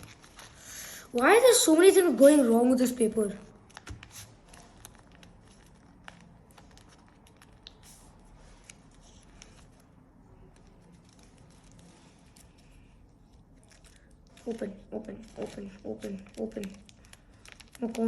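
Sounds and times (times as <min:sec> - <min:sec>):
paper rustling as folded: 0:00.0 - 0:00.8, 0:01.4 - 0:18.0.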